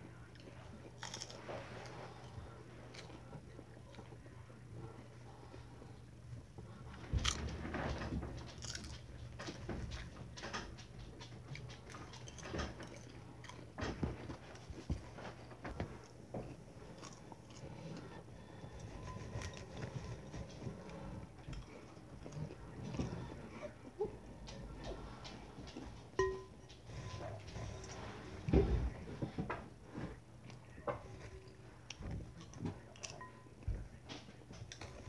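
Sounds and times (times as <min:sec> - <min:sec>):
people chewing popcorn: 0:00.0 - 0:35.0.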